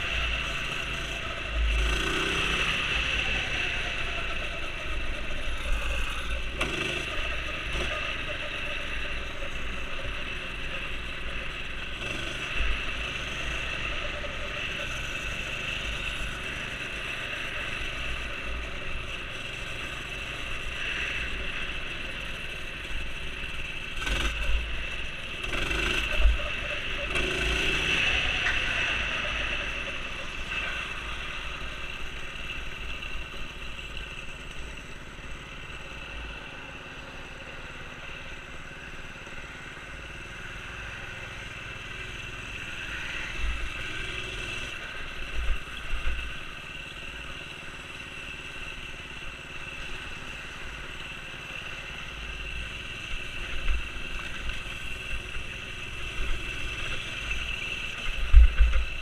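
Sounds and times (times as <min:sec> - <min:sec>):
minibike engine running: 0:00.0 - 0:59.0.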